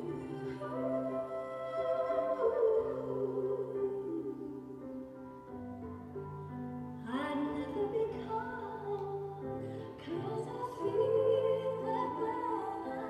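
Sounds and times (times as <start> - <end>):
woman singing: 0.0 - 5.1, 7.0 - 13.0.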